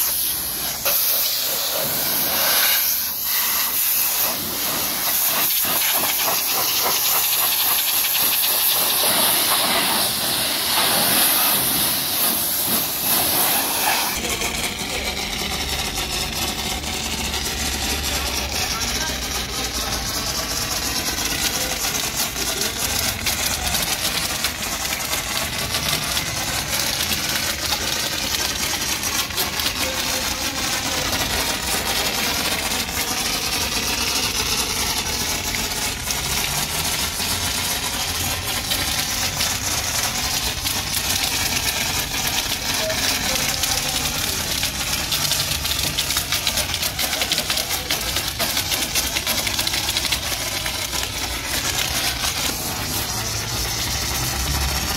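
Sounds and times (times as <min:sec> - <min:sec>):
foam spraying from nozzle: 0:00.0 - 0:54.9
machine motor running: 0:00.0 - 0:54.9.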